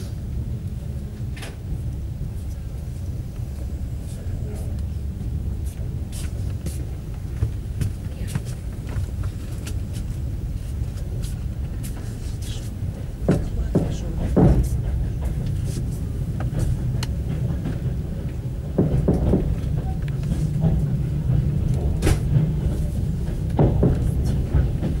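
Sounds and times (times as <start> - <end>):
train car rumbling: 0.0 - 25.0.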